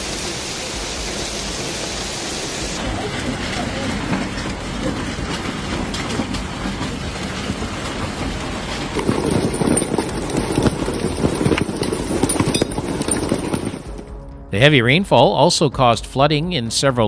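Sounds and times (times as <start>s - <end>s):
hailstones clattering: 0.1s - 14.1s.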